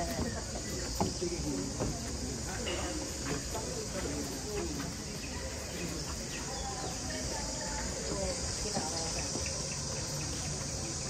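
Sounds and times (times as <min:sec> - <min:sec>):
faint voices: 0:00.0 - 0:11.0
high-pitched insect chorus: 0:00.0 - 0:11.0.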